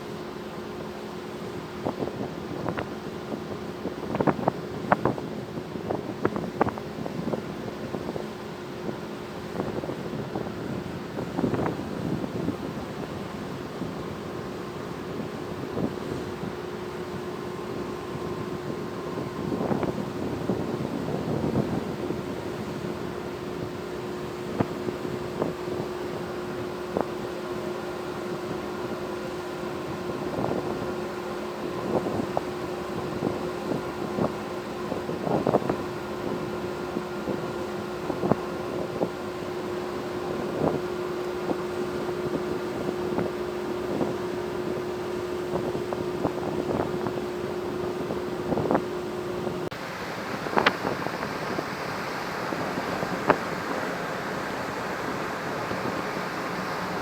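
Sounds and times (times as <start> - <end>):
ship engine hum: 0.0 - 57.0
wind and water hiss: 0.0 - 57.0
wind on microphone: 1.4 - 57.0.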